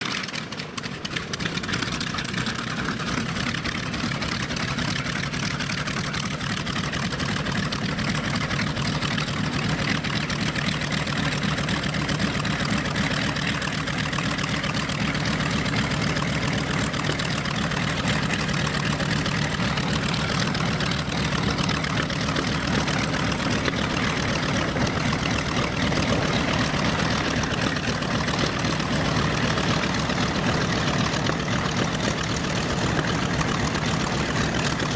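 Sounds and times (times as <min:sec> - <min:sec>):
radial piston engines droning: 0:00.2 - 0:34.9.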